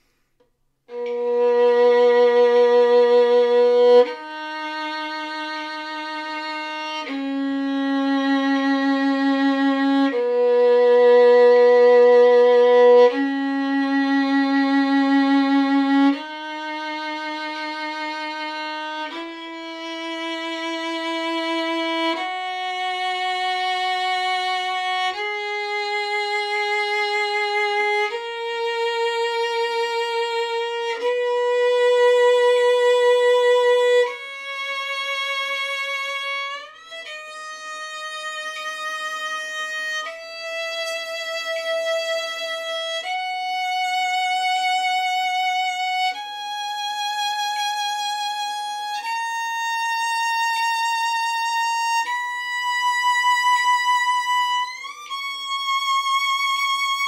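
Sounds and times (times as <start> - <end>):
solo violin playing a scale: 0.8 - 57.0.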